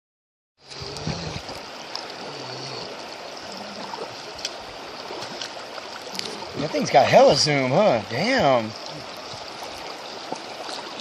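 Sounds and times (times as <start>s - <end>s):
river water rushing: 0.6s - 11.0s.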